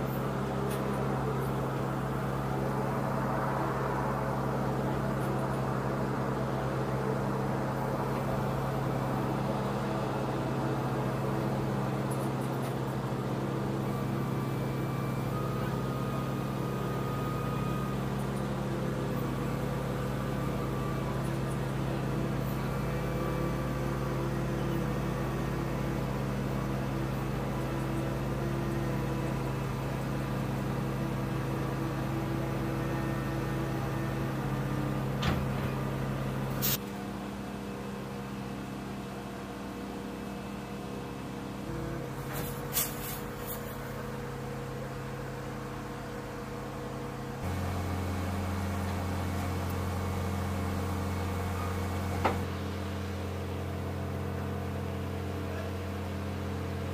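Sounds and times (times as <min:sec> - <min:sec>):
faint high whines: 0:00.0 - 0:55.8
engine drone: 0:00.0 - 0:56.9.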